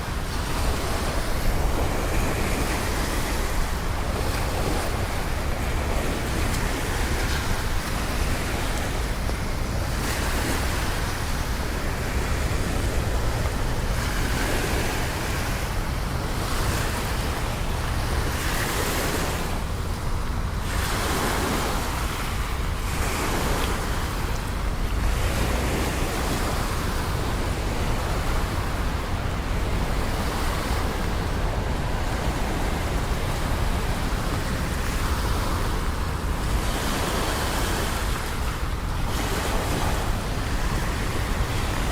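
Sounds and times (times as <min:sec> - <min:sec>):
traffic on wet streets: 0:00.0 - 0:41.9.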